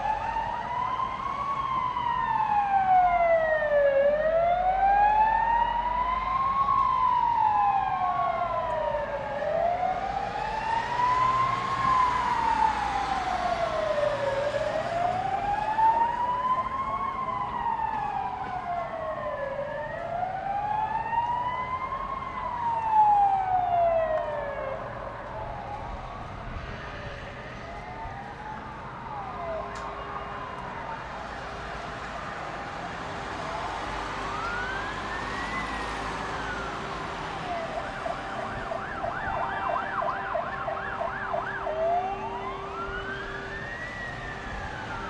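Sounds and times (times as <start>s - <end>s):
siren wailing: 0.0s - 31.5s, 32.3s - 45.0s
fainter second siren: 0.0s - 45.0s.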